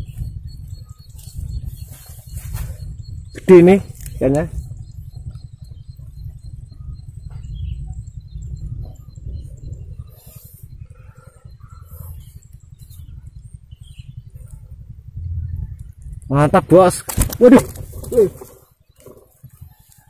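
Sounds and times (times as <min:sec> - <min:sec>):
faint bird chirps: 0:00.0 - 0:20.0
wind rumble on microphone: 0:00.0 - 0:20.0.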